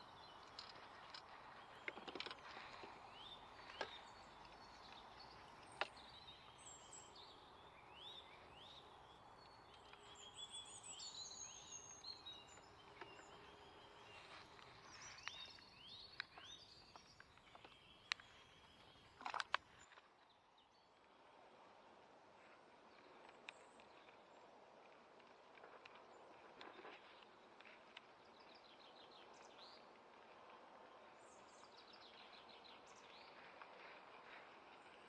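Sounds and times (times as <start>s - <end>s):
faint birdsong chirps: 0.0s - 35.0s.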